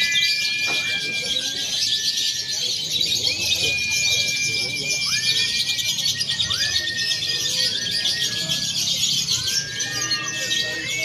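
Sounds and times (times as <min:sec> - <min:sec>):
lovebirds chattering: 0:00.0 - 0:11.0.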